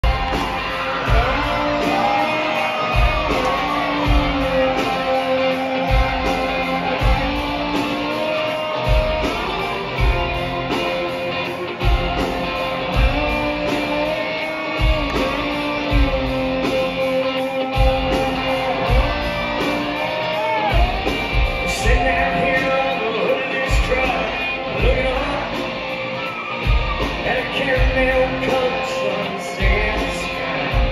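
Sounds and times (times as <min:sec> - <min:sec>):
country rock band playing: 0:00.0 - 0:30.9.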